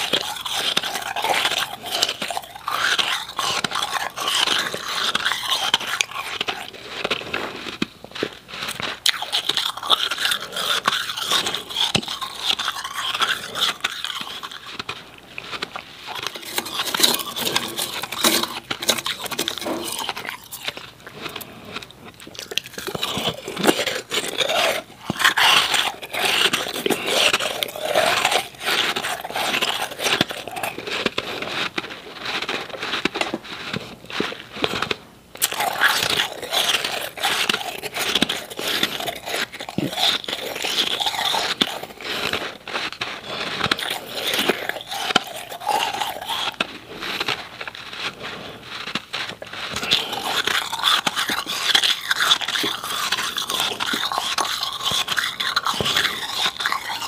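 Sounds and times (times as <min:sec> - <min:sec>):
ice being chewed crunching: 0:00.0 - 0:57.0.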